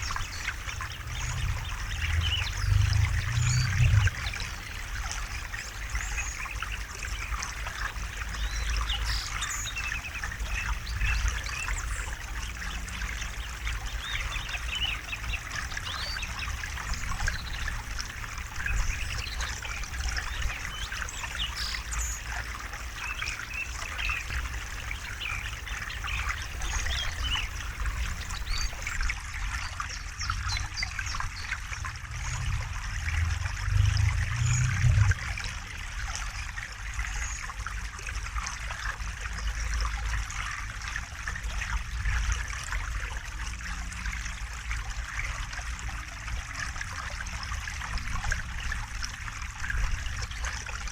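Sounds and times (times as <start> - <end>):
river trickling over stones: 0.0 - 50.9.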